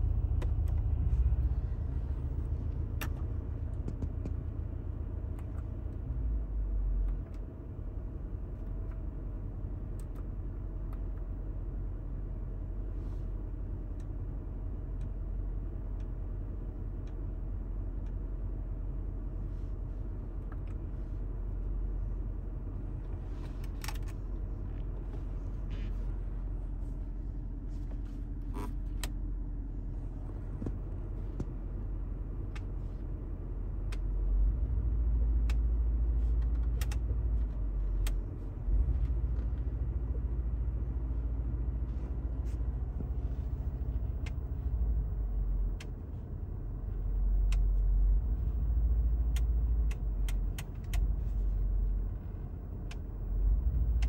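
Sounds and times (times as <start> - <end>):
car engine idling rumble: 0.0 - 54.0.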